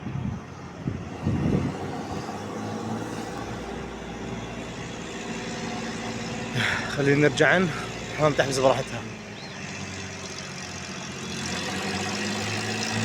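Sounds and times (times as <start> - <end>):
vehicle engine idling: 0.3 - 13.0.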